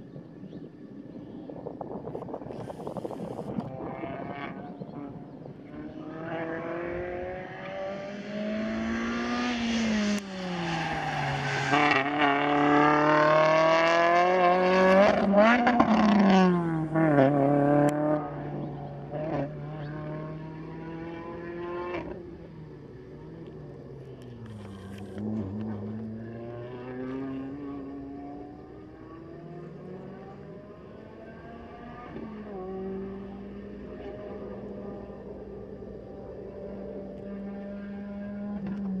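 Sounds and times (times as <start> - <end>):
car engine revving: 2.6 - 39.0.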